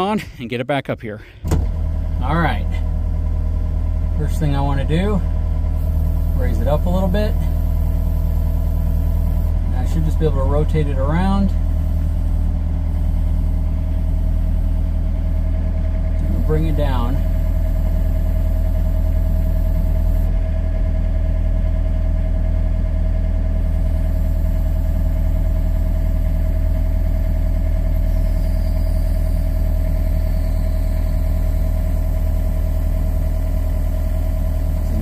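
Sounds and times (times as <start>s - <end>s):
excavator engine running: 1.1s - 35.0s
steady whine: 1.5s - 20.8s, 23.4s - 35.0s.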